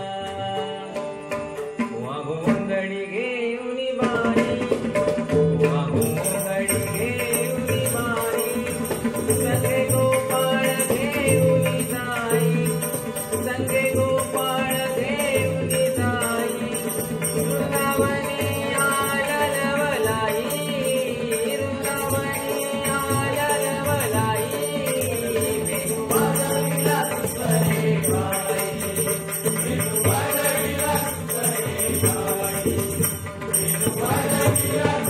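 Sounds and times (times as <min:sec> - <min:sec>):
devotional folk singing: 0:00.0 - 0:35.0
hand drum beat: 0:04.0 - 0:35.0.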